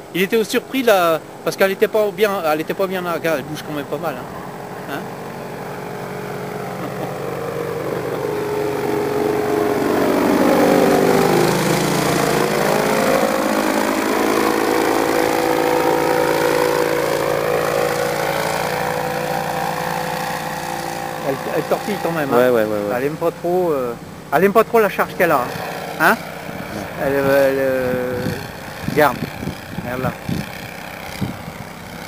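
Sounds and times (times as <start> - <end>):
paramotor engine flying past: 0.0 - 32.0.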